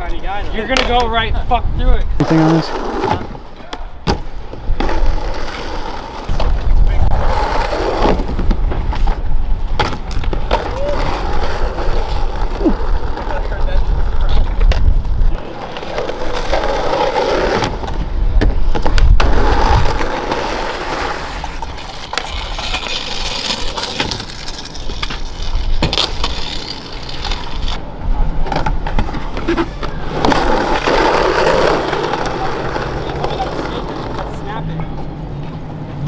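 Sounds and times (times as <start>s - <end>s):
skateboard wheels rolling on pavement: 0.0s - 36.0s
skateboard clacking on ground: 2.2s - 34.9s.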